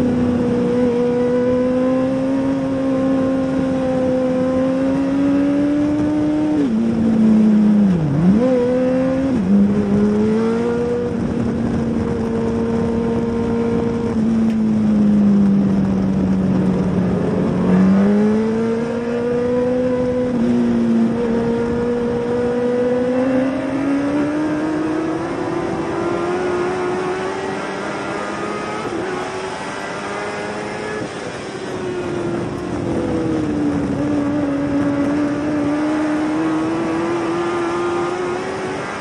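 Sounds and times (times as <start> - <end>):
race car engine under load: 0.0 - 39.0.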